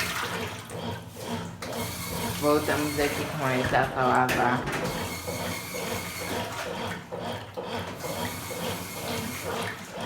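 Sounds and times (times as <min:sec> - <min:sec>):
washing machine motor humming: 0:00.0 - 0:10.0
water sloshing in washing machine: 0:00.0 - 0:10.0.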